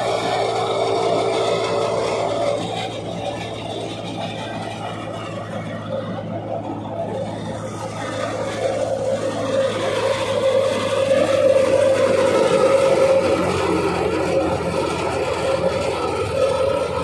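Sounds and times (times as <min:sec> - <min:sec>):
constant machine whine: 0:00.0 - 0:17.0
thresher machine hum: 0:00.0 - 0:17.0.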